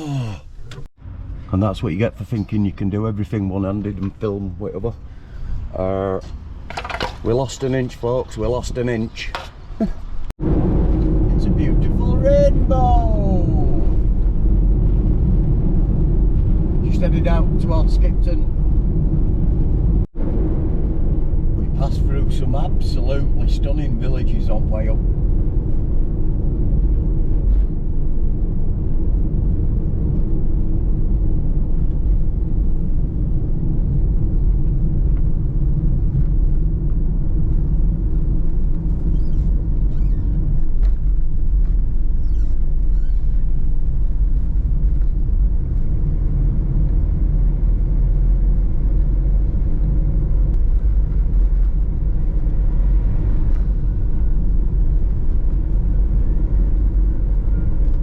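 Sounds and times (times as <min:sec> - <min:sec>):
engine and road noise in cabin: 0:00.0 - 0:58.0.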